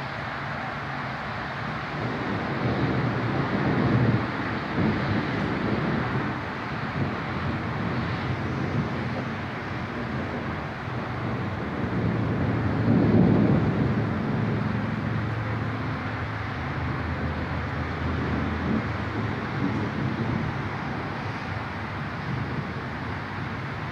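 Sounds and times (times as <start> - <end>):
outdoor background noise: 0.0 - 23.9
thunder rumbling: 1.8 - 23.9.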